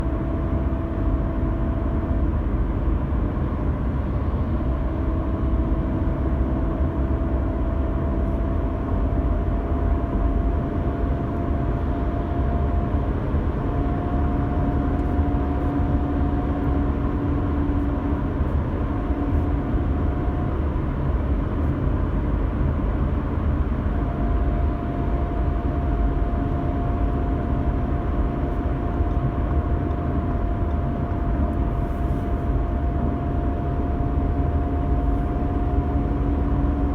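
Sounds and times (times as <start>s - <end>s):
road and engine noise: 0.0s - 36.9s.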